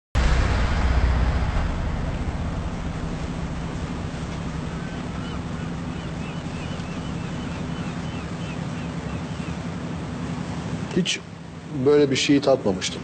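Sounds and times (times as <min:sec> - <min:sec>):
low droning hum: 0:00.2 - 0:11.7.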